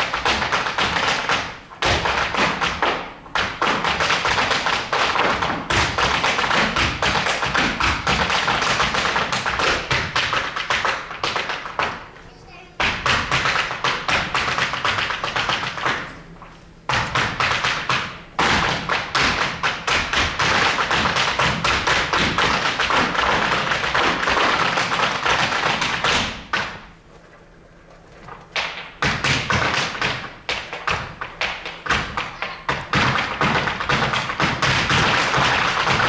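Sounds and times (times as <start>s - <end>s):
hard shoes tapping on stage floor: 0.0s - 36.0s.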